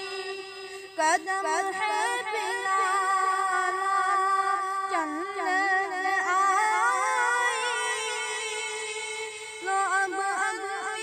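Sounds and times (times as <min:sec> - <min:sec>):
boy singing unaccompanied: 0:00.0 - 0:11.0.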